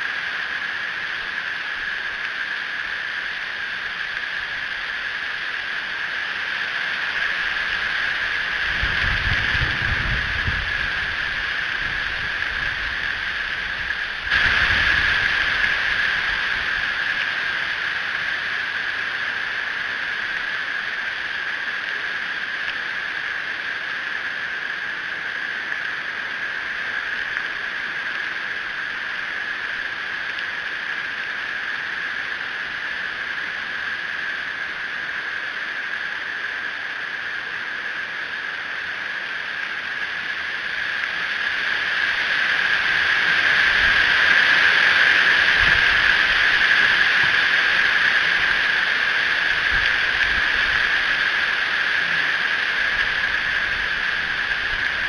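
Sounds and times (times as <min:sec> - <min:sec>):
rain hissing on tree: 0:00.0 - 0:55.0.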